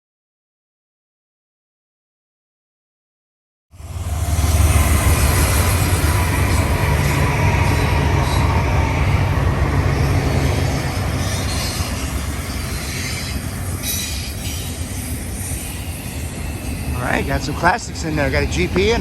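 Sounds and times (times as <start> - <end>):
freight train rumbling past: 3.7 - 19.0
train wheels rolling on rails: 3.8 - 19.0.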